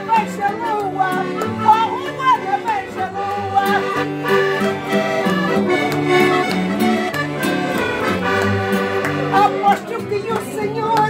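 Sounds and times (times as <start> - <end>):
button accordion playing: 0.0 - 11.0.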